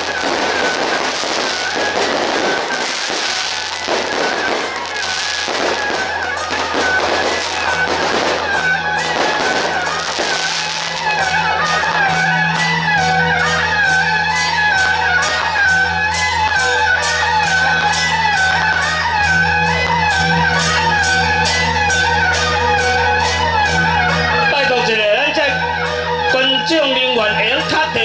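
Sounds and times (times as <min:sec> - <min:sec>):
wavering procession melody: 0:00.0 - 0:28.0.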